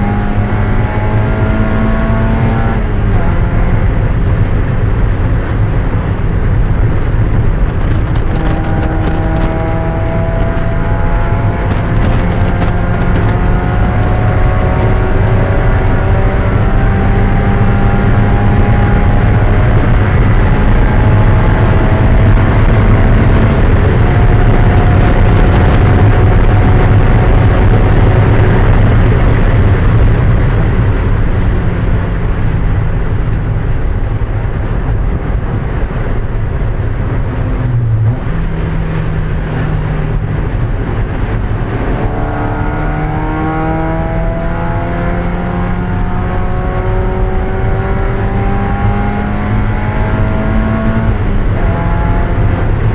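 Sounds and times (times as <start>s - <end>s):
car engine revving hard: 0.0s - 31.5s, 36.5s - 52.9s.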